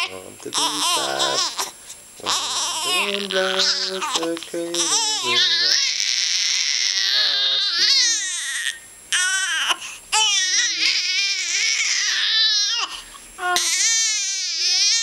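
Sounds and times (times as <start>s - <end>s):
newborn baby crying: 0.0s - 15.0s.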